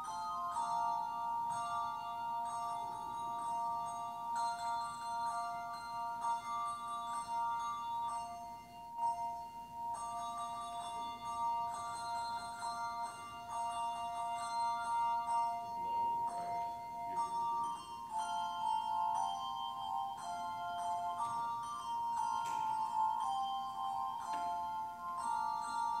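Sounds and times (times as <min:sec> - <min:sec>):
instrumental music with held high notes: 0:00.0 - 0:26.0.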